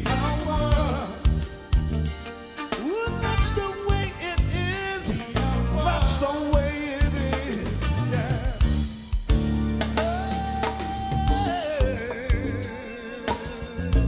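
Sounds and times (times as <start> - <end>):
person singing with vibrato: 0.0 - 1.5, 2.8 - 9.1, 9.9 - 14.0
drums and bass: 0.0 - 14.0.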